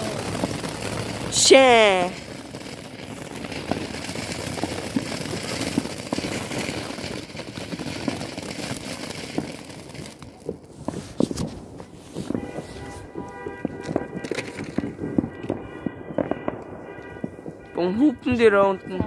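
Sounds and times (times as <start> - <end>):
firework fountain hissing and crackling: 0.0 - 16.6
sharp firework pops: 2.0 - 17.8.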